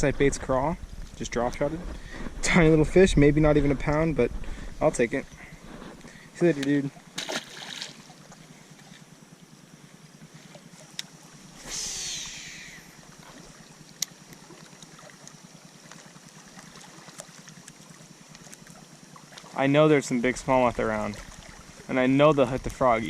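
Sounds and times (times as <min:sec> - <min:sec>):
water trickling and lapping: 0:03.6 - 0:23.0.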